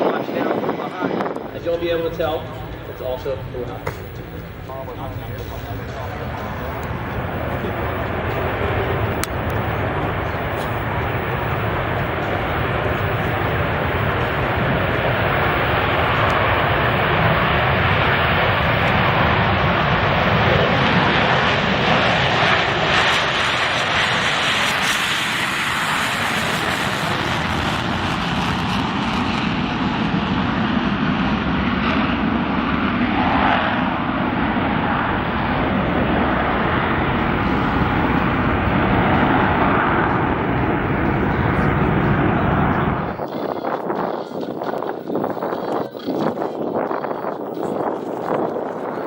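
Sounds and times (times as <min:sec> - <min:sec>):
jet engine roar: 0:00.0 - 0:49.0.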